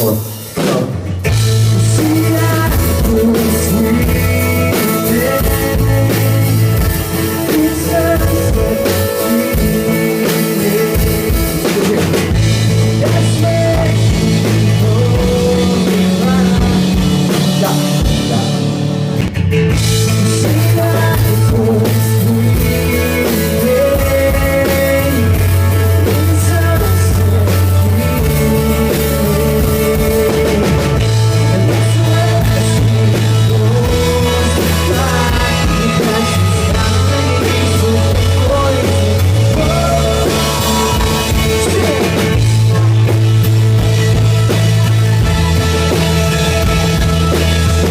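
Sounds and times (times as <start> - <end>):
man singing: 0.0 - 19.1, 20.0 - 44.5
bass guitar: 0.0 - 47.9
drum kit: 0.0 - 47.9
electric guitar: 0.0 - 47.9.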